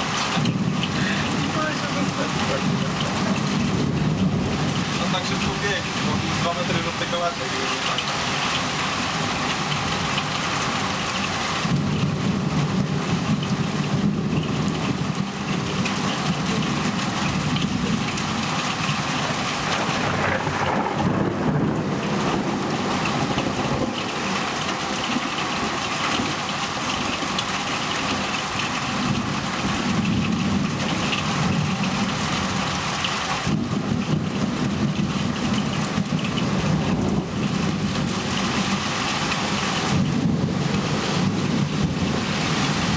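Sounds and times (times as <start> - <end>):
steady rain: 0.0 - 42.9
thunder rolling: 0.4 - 10.2, 11.6 - 27.4, 33.4 - 42.9.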